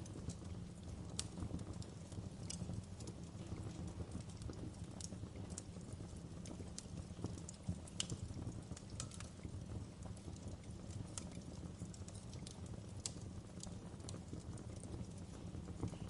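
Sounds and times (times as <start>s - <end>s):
burning logs popping and snapping: 0.0s - 16.0s
low rumble of flames: 0.0s - 16.0s.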